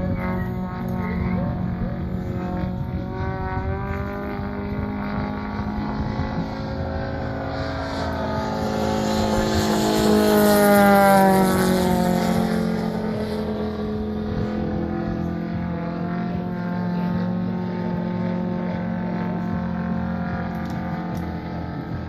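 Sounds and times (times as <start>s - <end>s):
model plane engine passing: 0.0s - 22.0s.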